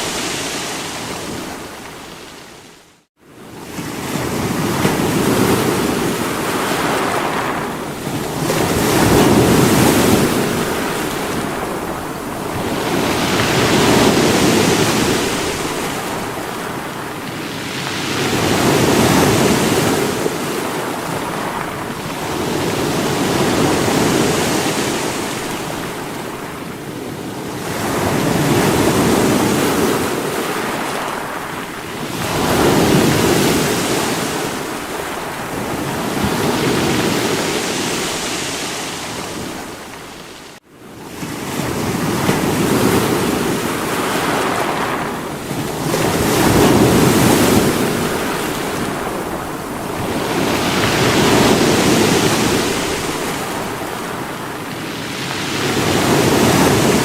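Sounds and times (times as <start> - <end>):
sea waves breaking against rocks: 3.4 - 57.0.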